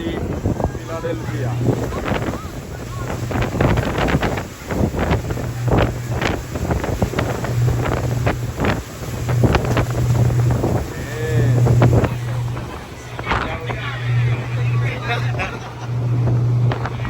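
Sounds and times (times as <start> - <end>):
ferry engines droning: 0.0 - 17.0
wind gusting over microphone: 0.0 - 17.0.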